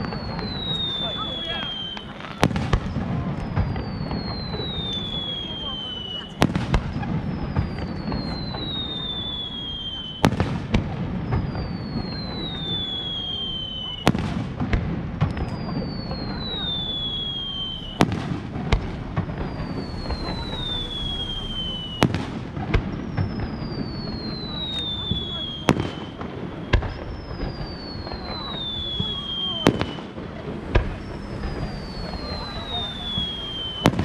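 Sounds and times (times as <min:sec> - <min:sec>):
firework whistle falling in pitch: 0:00.0 - 0:14.3, 0:15.3 - 0:18.4, 0:19.2 - 0:34.0
firework bursting bang: 0:00.0 - 0:34.0.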